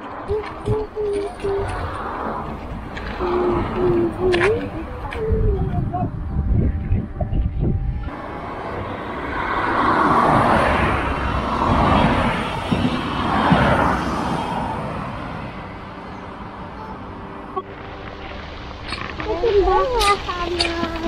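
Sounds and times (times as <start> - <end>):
diesel train passing: 0.0 - 6.7, 7.5 - 21.0
road traffic passing: 0.0 - 21.0.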